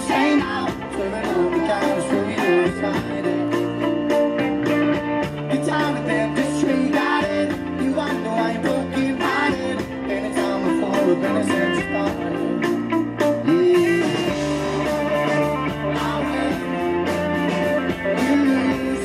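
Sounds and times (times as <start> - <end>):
person singing: 0.0 - 4.3, 5.4 - 19.0
rock band playing: 0.0 - 19.0.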